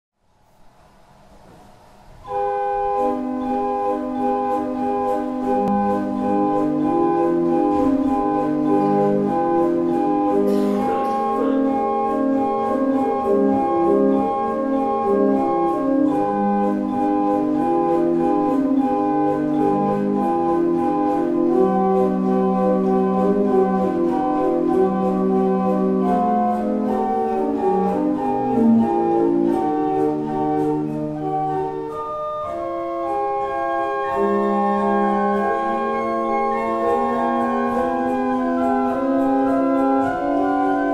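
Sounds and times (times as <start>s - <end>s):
church pipe organ playing: 1.9s - 40.9s.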